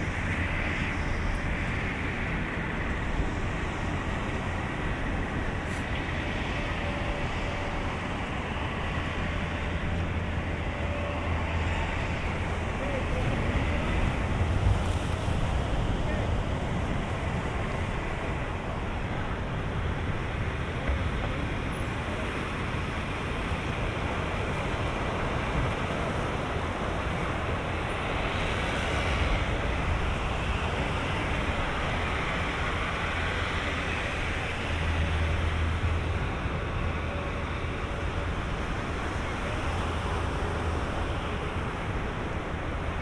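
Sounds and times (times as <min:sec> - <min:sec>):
wind noise on microphone: 0:00.0 - 0:43.0.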